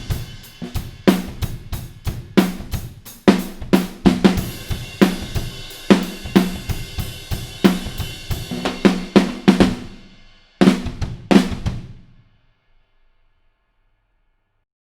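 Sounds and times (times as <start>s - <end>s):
drum kit groove: 0.0s - 12.2s.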